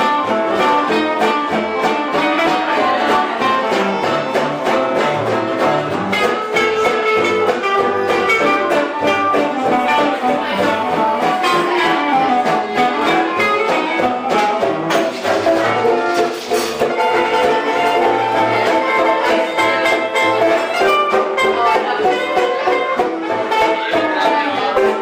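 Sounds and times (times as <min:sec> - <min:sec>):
live band playing instrumental music: 0:00.0 - 0:25.0.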